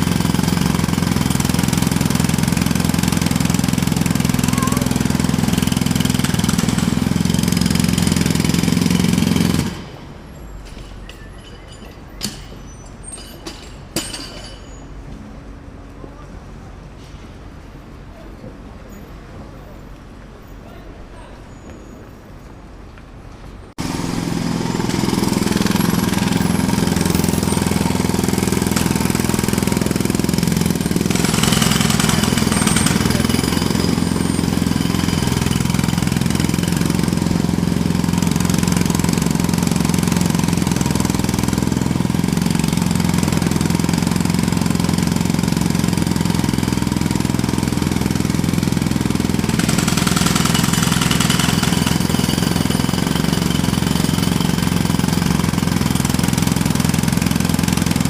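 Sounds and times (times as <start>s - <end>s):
jackhammer hammering: 0.0s - 14.7s, 23.8s - 58.0s.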